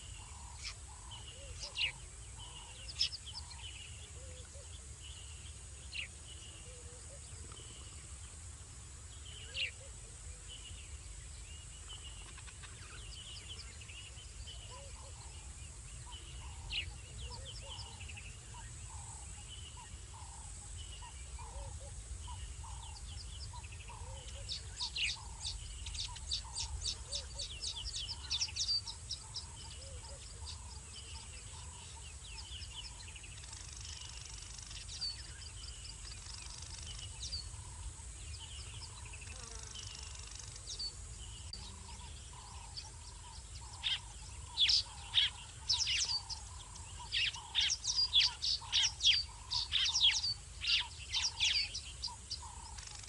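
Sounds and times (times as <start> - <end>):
high insect drone: 0.0 - 53.0.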